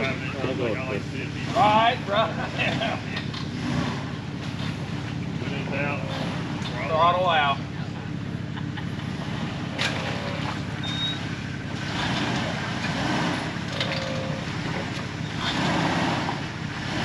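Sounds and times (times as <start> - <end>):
engine under heavy throttle: 0.0 - 17.0.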